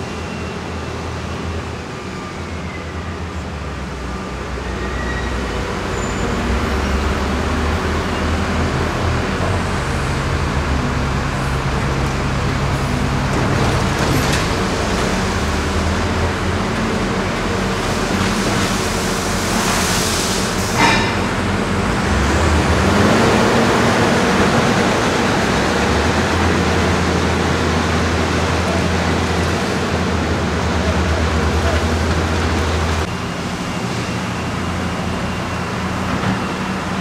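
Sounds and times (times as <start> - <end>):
heavy machinery diesel engines: 0.0 - 37.0.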